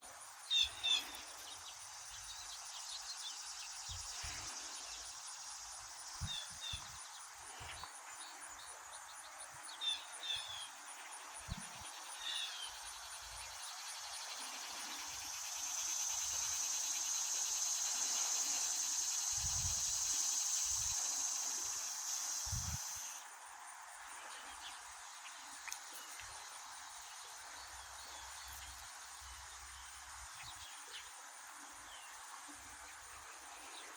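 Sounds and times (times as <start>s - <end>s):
insect chorus buzzing trill: 0.0s - 33.9s.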